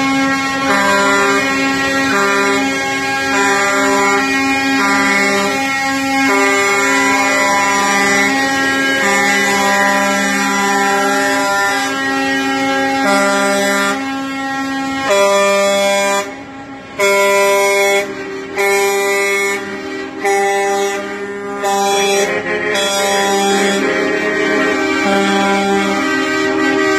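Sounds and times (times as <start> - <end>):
truck air horns: 0.0 - 26.9.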